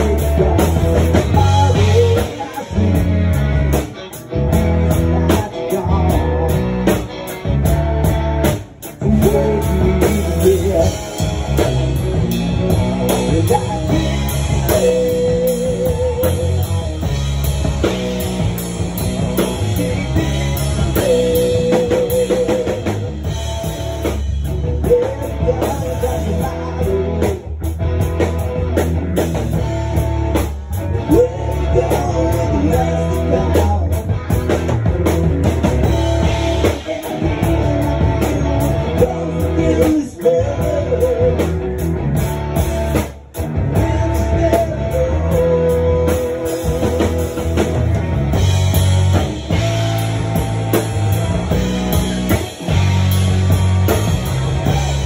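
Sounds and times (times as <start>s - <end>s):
drum kit: 0.0s - 55.0s
electric guitars: 0.0s - 55.0s.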